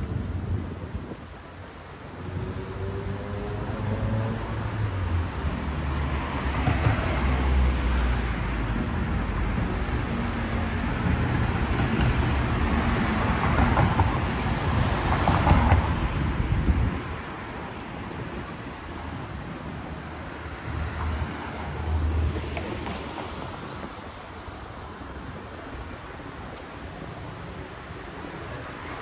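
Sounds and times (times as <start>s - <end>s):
vehicles passing close by: 0.0s - 29.0s.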